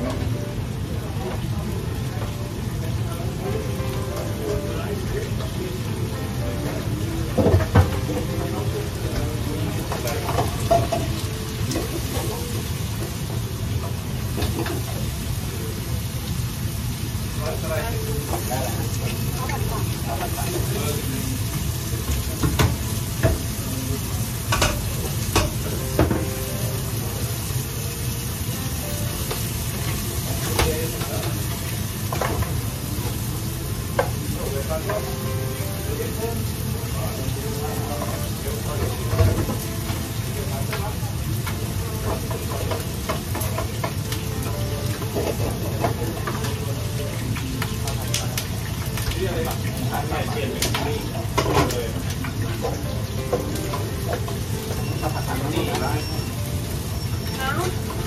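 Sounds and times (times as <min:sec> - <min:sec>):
kitchen ventilation: 0:00.0 - 0:58.0
pan-frying sizzle: 0:00.0 - 0:58.0
metal pans and utensils clanking: 0:06.2 - 0:16.0, 0:17.4 - 0:27.9, 0:28.5 - 0:58.0.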